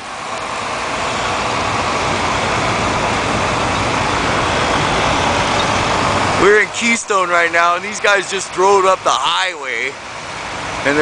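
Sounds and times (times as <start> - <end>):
tractor engines driving by: 0.0 - 11.0.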